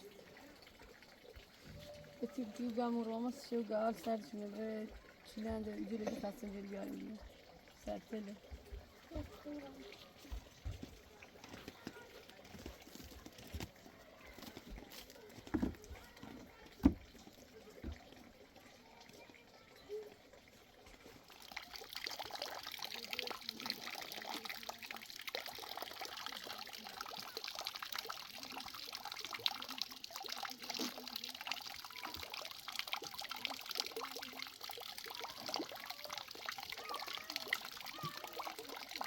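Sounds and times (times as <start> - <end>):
water pouring and trickling: 0.0 - 39.0.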